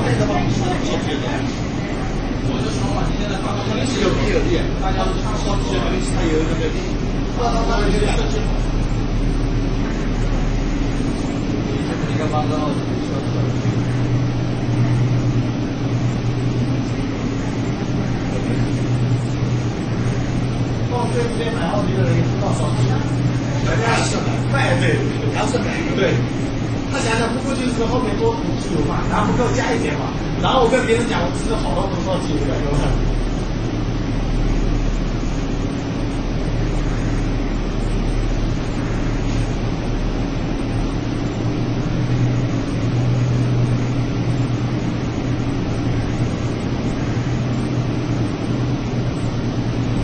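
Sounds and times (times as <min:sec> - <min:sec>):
machine low hum: 0:00.0 - 0:50.0.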